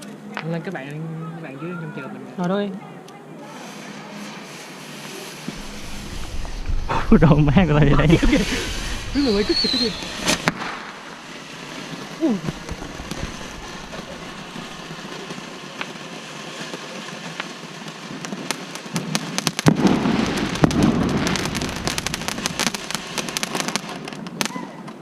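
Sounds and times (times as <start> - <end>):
fireworks crackling: 3.4 - 25.0
fireworks popping: 3.4 - 25.0
loud firework blast: 3.5 - 24.7.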